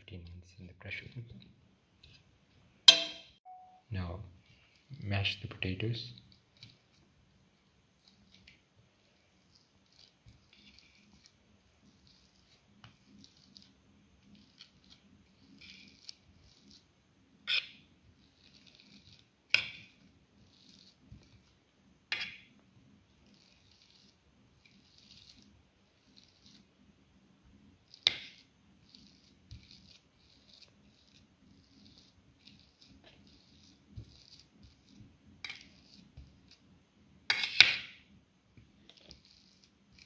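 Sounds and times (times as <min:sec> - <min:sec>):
potatoes squishing under masher: 0:04.4 - 0:40.0.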